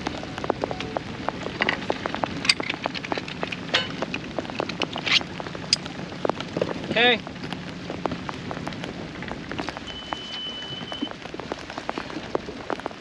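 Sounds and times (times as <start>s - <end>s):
raindrops tapping surfaces: 0.0s - 13.0s.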